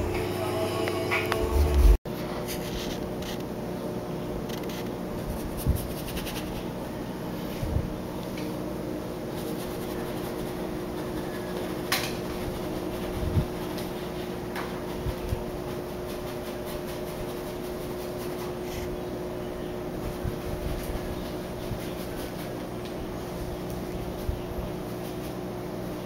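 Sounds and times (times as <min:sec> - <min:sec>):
appliance humming: 0:00.0 - 0:26.0.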